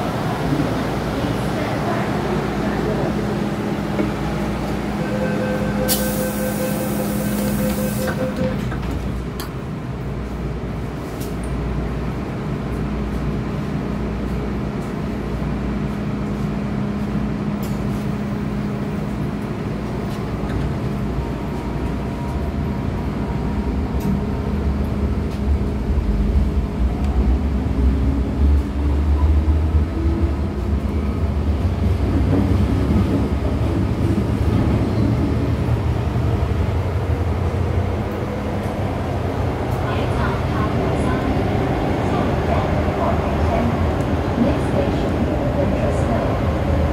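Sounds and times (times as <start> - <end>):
steady train hum: 0.0 - 46.9.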